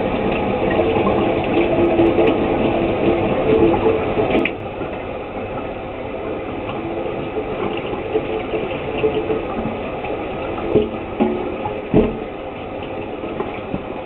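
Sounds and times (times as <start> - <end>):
low hum in pipes: 0.0 - 14.0
water running from a tap: 0.0 - 14.0.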